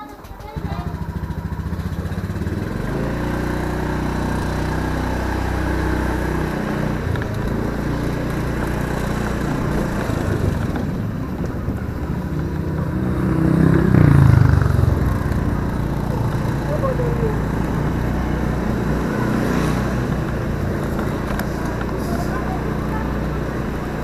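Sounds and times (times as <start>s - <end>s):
scooter engine running: 0.2s - 24.0s.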